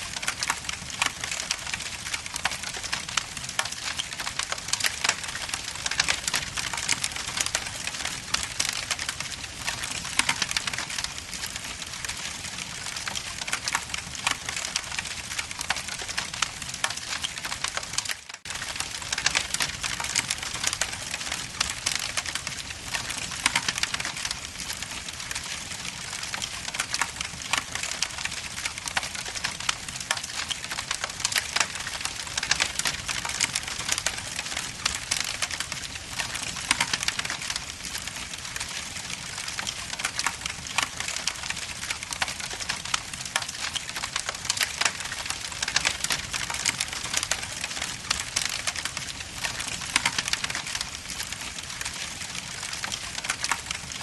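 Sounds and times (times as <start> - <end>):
logs crackling and popping in fire: 0.0 - 54.0.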